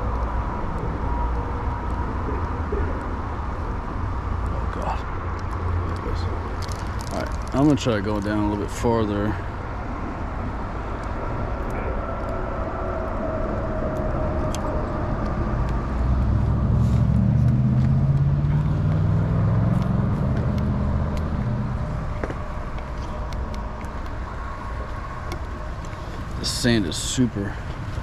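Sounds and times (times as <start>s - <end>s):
background traffic noise: 0.0s - 28.0s
vehicle passing: 0.0s - 28.0s.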